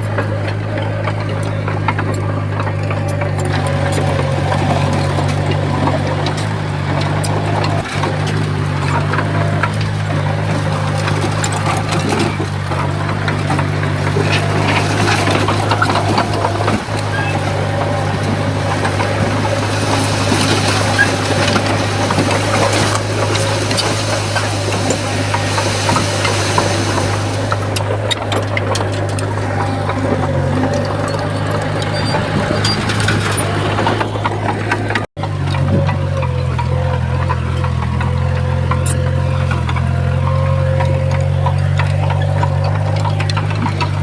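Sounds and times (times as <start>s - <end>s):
bulldozer diesel engine under load: 0.0s - 44.0s
clanks and rattles: 0.0s - 44.0s.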